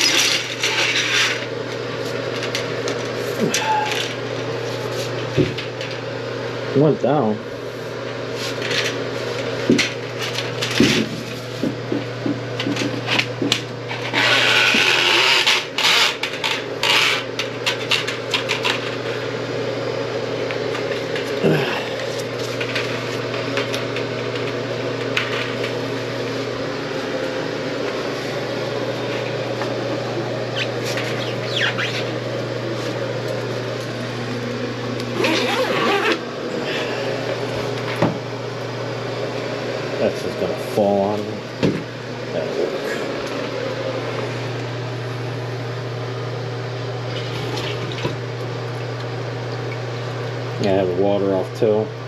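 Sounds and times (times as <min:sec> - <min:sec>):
toilet auger motor hum: 0:00.0 - 0:52.0.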